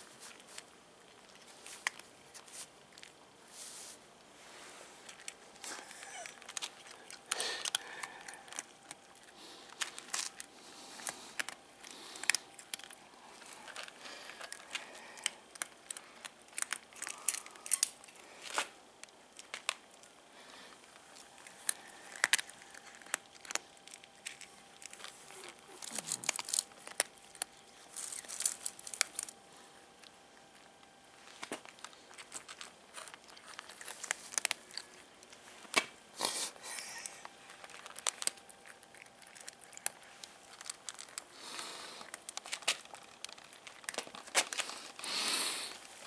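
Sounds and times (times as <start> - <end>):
cats crunching kibble: 0.0 - 46.0.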